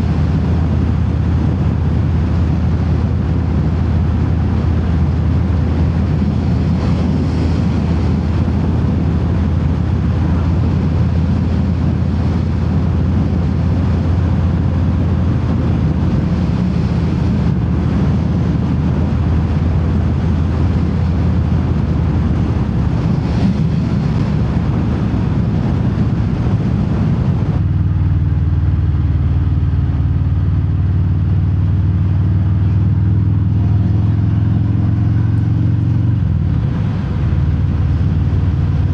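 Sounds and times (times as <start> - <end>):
motorcycle exhaust rumble: 0.0 - 38.9
wind noise: 0.0 - 38.9.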